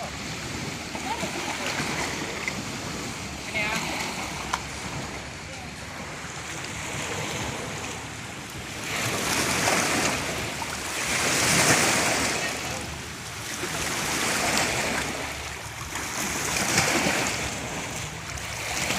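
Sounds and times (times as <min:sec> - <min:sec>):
waves breaking on shore: 0:00.0 - 0:18.9.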